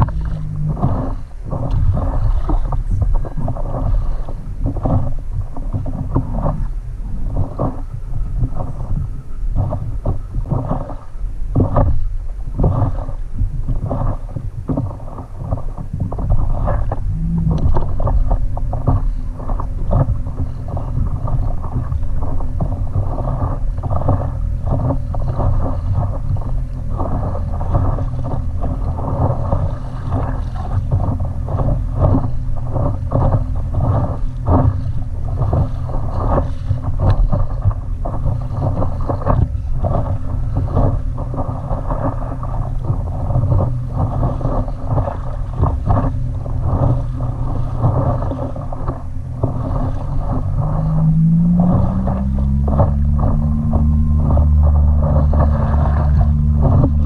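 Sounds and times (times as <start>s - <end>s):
water lapping and splashing: 0.0s - 57.0s
wind rumbling on microphone: 0.0s - 57.0s.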